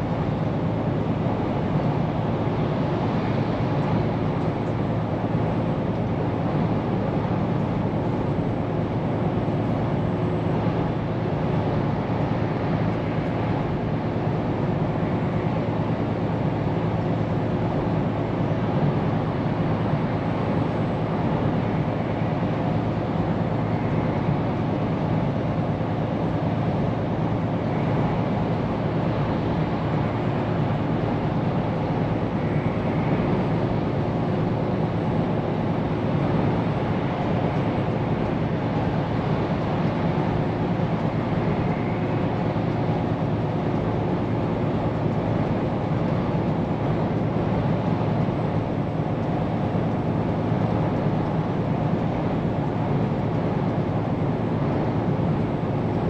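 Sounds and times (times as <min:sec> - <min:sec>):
road and tyre noise: 0:00.0 - 0:56.0.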